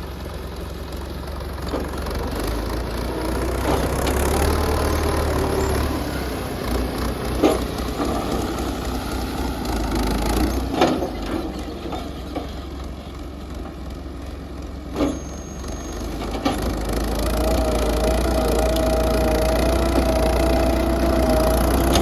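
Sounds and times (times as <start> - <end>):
tractor engine hum: 0.0 - 22.0.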